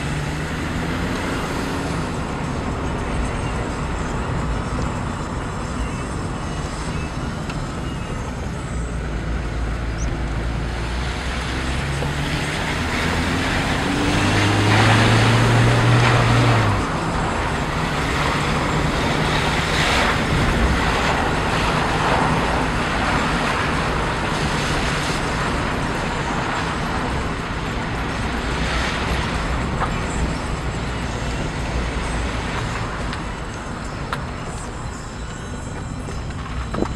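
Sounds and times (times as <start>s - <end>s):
car engine revving: 0.0s - 34.6s.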